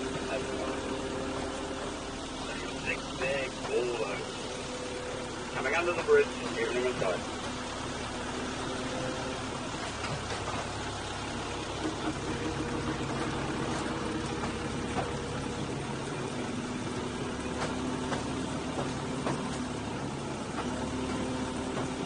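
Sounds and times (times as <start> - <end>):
diesel engine hum: 0.0 - 22.0
wheel on rail rumble: 0.0 - 22.0.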